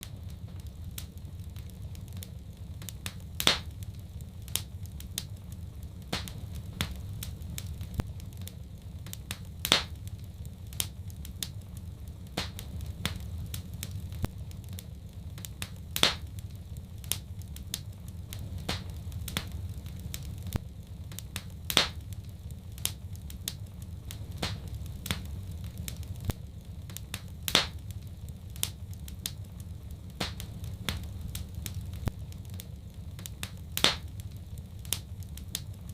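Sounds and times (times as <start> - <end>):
fire popping: 0.0 - 35.9
low rumble: 0.0 - 35.9
wood fire crackling: 0.0 - 35.9.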